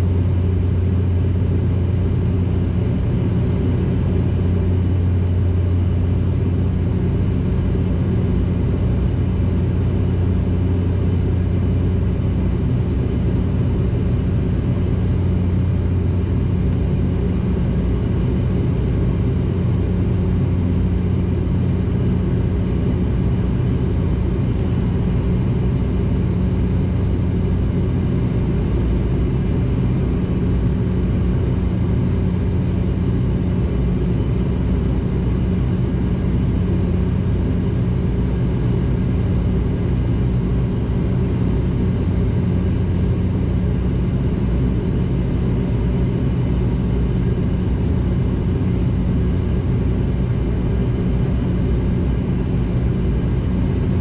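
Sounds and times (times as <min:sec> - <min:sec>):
turboprop engines droning: 0:00.0 - 0:54.0.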